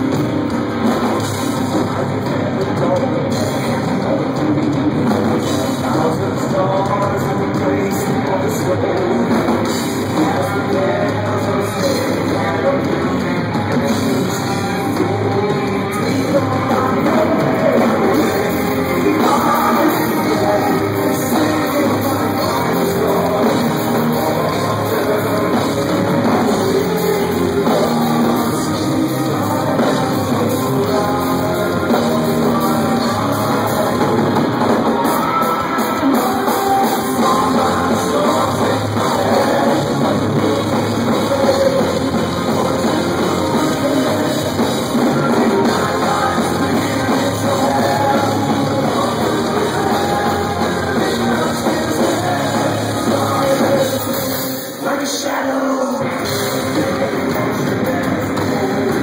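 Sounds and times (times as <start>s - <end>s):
bass guitar: 0.0s - 54.8s, 56.0s - 59.0s
distorted electric guitars: 0.0s - 59.0s
drums: 0.0s - 59.0s
male lead vocals: 0.0s - 59.0s.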